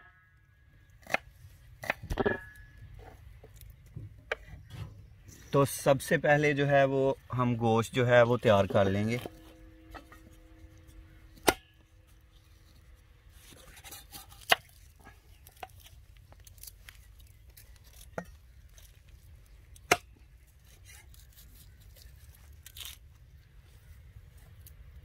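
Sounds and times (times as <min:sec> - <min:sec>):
onion skins scraping and tearing: 0:00.9 - 0:05.6, 0:08.3 - 0:25.0.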